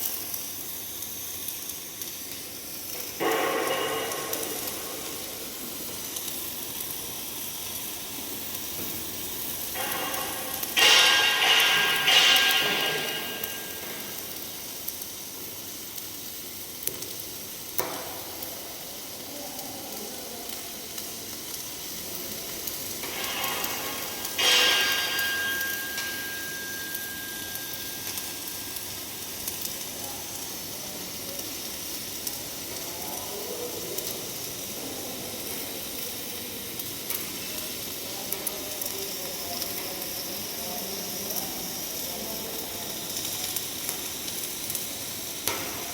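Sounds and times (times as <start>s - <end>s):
welding arc crackling and sizzling: 0.0s - 45.9s.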